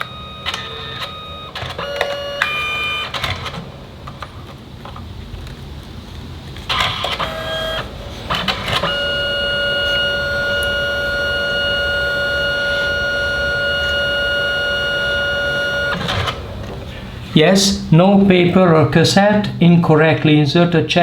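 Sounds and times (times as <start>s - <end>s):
printer mechanism clattering: 0.0s - 19.5s
printer high whine: 0.0s - 19.8s.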